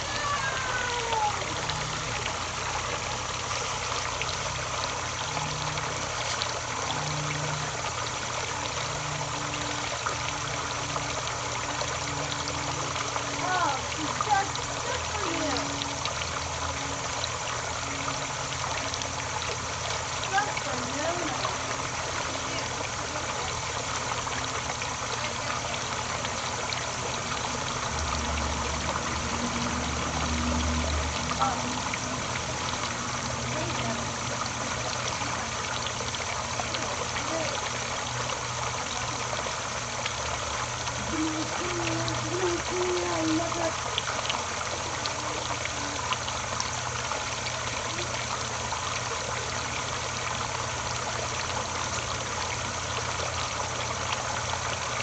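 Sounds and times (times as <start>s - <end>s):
water trickling: 0.0s - 55.0s.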